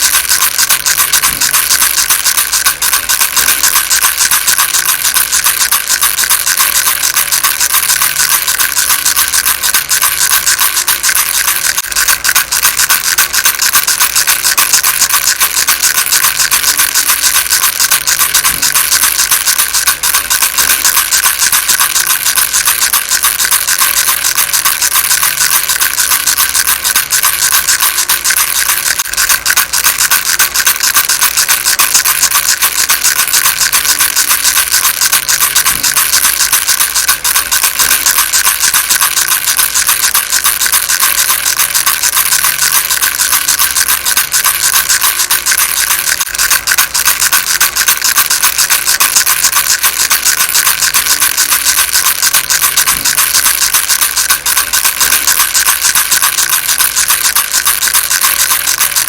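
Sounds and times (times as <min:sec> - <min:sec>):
baby rattle shaking: 0:00.0 - 0:59.0.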